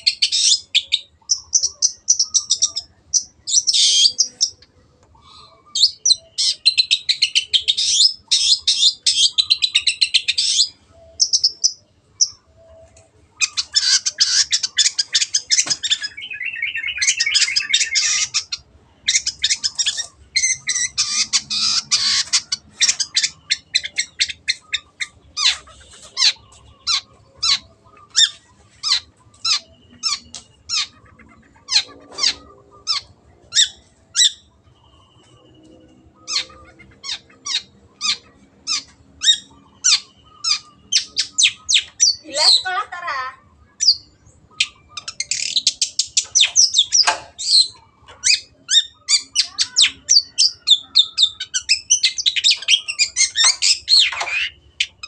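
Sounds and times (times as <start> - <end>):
bird sharp calls: 0.0 - 55.0
shrike chattering song: 0.0 - 55.0.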